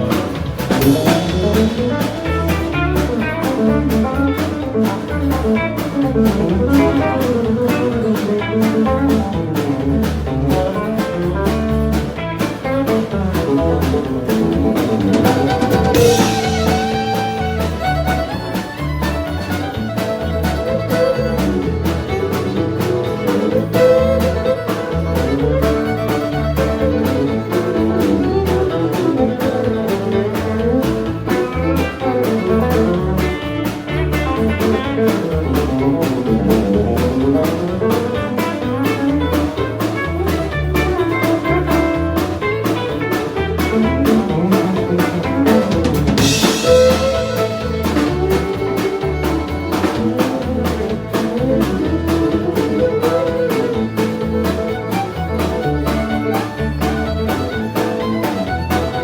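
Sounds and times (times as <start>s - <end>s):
country band playing: 0.0s - 59.0s
drums keeping steady beat: 0.0s - 59.0s
lead guitar solo: 0.0s - 59.0s.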